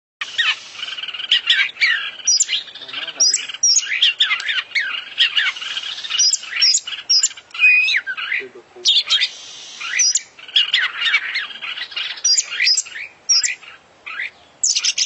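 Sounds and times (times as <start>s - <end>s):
bird singing varied song: 0.2s - 15.0s.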